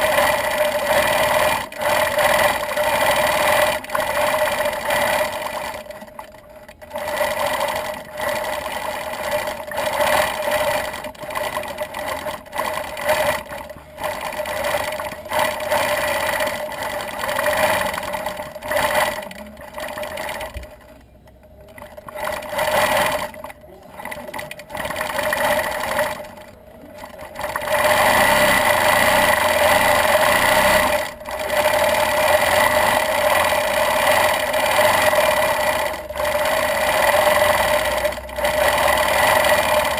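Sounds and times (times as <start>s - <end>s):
quilting machine stitching: 0.0s - 39.9s.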